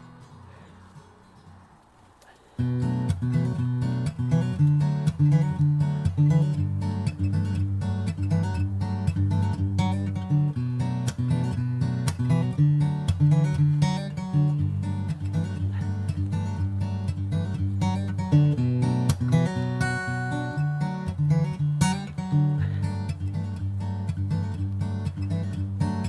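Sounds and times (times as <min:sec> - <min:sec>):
acoustic guitar strummed and plucked: 0:00.0 - 0:26.0.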